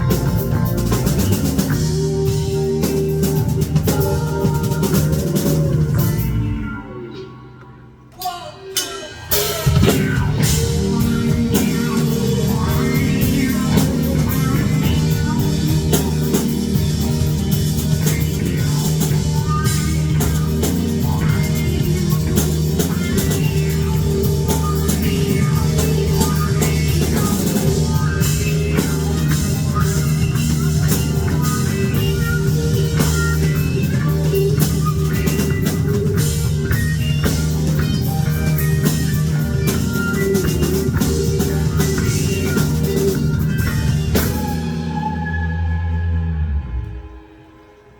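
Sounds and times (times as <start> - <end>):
drum kit and cymbals: 0.0 - 7.4, 8.1 - 47.2
electric guitar: 0.0 - 8.0, 9.1 - 47.8.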